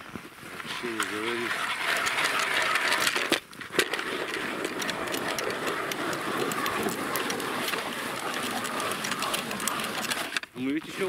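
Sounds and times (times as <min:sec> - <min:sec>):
ice auger grinding: 0:00.4 - 0:11.0.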